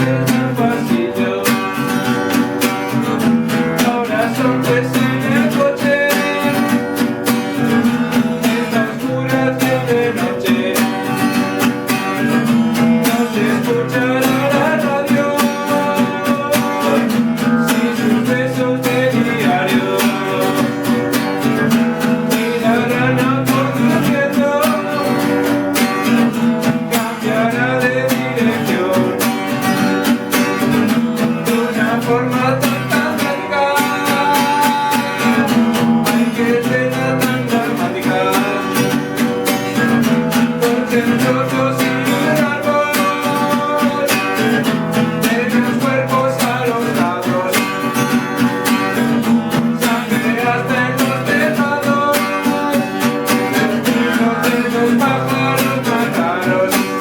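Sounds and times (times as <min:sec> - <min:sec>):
guitar music: 0:00.0 - 0:57.0.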